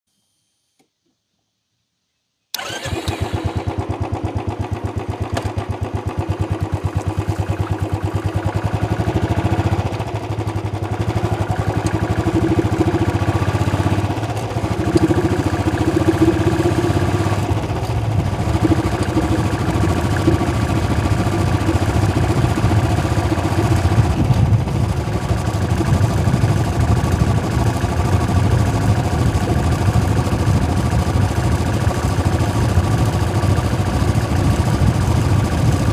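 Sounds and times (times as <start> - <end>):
motorcycle engine idling: 2.6 - 35.9.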